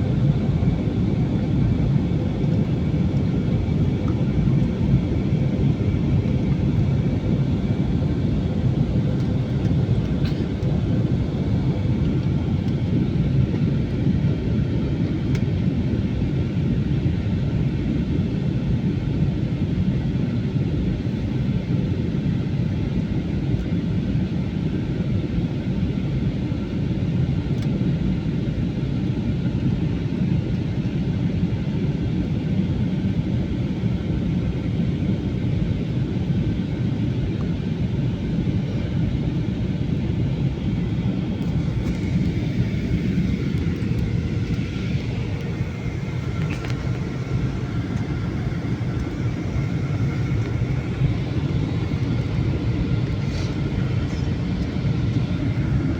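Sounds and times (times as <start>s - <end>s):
airplane engine rumble: 0.0s - 55.9s.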